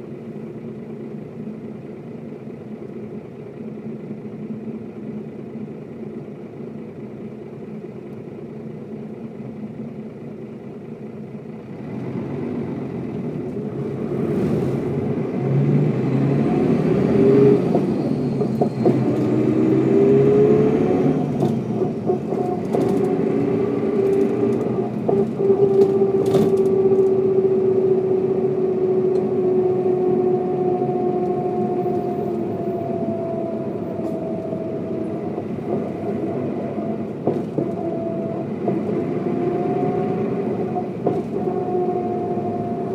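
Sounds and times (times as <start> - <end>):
bus diesel engine: 0.0 - 42.9
engine whine: 0.0 - 42.9.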